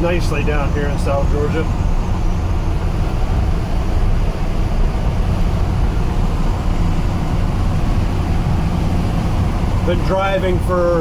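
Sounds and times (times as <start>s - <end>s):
truck driving rumble from inside: 0.0s - 11.0s.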